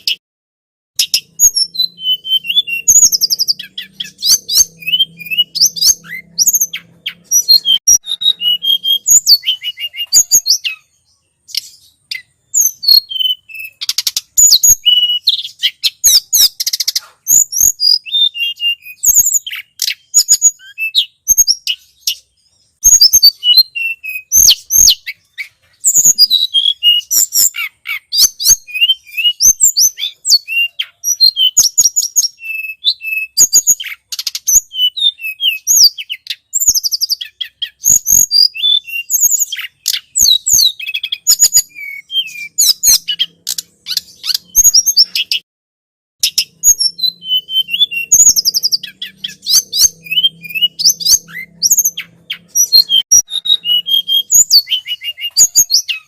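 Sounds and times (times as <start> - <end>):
bird chirping and whistling: 0.0 - 0.2, 1.0 - 45.4, 46.2 - 56.0.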